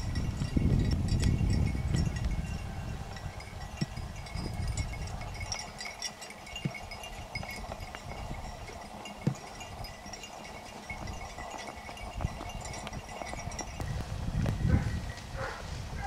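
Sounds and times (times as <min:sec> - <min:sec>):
dog collar bells tinkling: 0:00.0 - 0:14.0.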